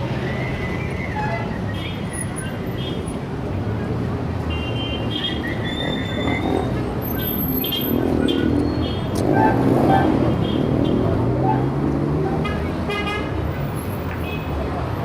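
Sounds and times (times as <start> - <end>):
heavy traffic rumble: 0.0 - 15.0.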